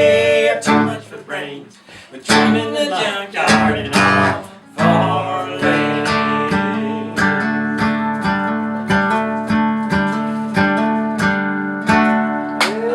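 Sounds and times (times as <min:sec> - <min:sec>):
acoustic guitar strumming chords: 0:00.0 - 0:01.2, 0:02.0 - 0:12.9.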